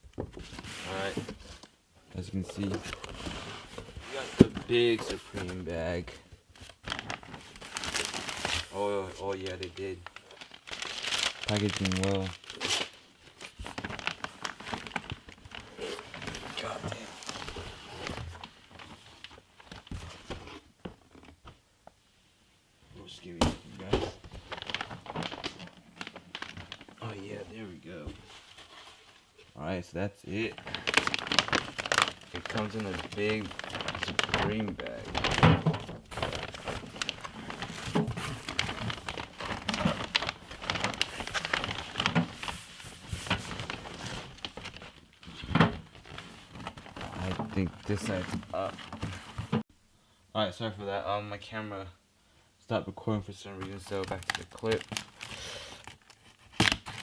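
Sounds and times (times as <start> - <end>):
packaging rustling and crinkling: 0.2 - 21.4, 23.7 - 29.4, 30.3 - 49.6, 53.4 - 57.0.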